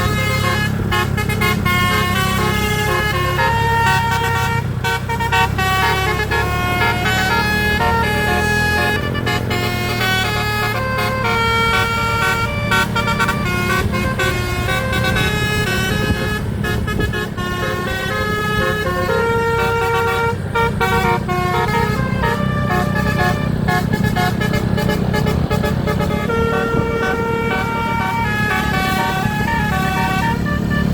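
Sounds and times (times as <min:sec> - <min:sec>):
tuned air horns melody: 0:00.0 - 0:30.9.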